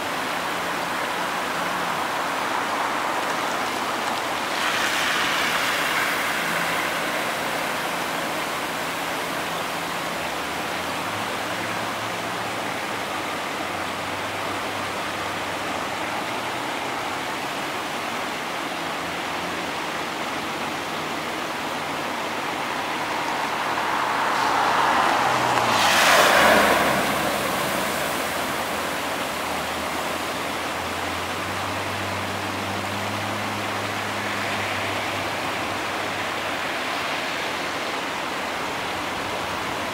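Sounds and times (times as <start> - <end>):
steady rushing noise: 0.0 - 39.9
tyres hissing through water: 0.0 - 39.9.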